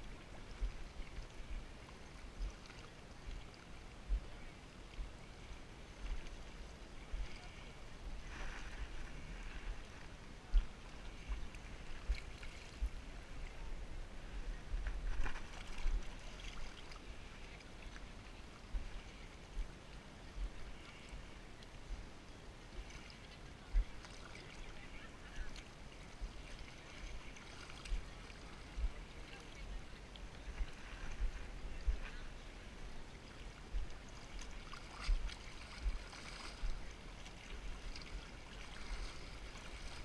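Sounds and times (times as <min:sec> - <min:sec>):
water sloshing and splashing: 0:00.0 - 0:21.8, 0:22.6 - 0:40.0.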